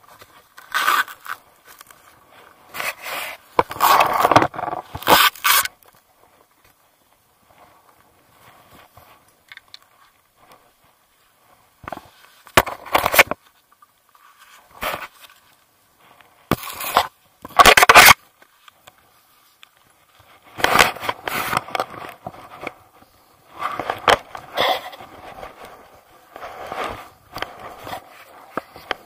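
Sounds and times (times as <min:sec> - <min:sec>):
fabric rustling against microphone: 0:00.0 - 0:29.0.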